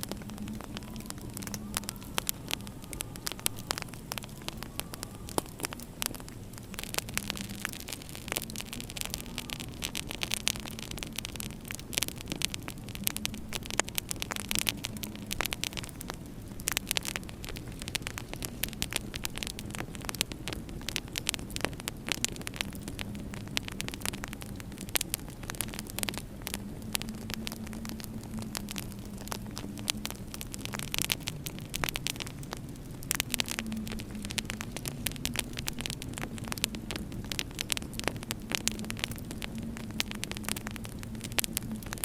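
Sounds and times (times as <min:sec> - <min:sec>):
faint wavering hum: 0:00.0 - 0:42.0
wood fire crackling: 0:00.0 - 0:42.0.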